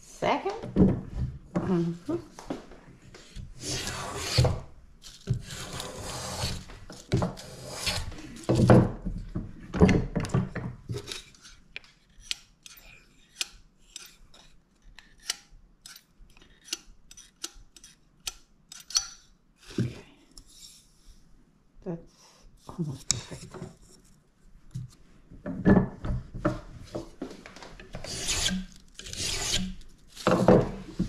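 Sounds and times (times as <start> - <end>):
wood and tools scraping: 3.1 - 20.9, 22.6 - 31.0.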